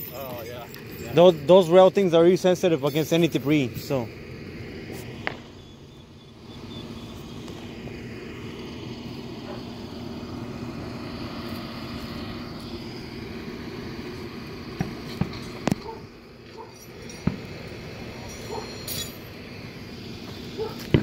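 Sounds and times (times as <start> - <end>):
engine droning: 0.0 - 21.0.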